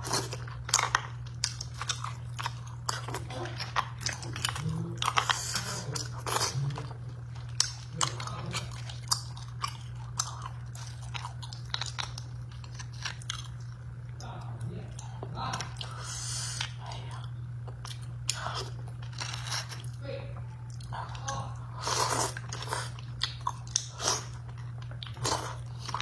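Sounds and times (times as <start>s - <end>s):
wet chewing and mouth sounds: 0.0s - 14.3s, 14.9s - 26.0s
steady low hum: 0.0s - 26.0s.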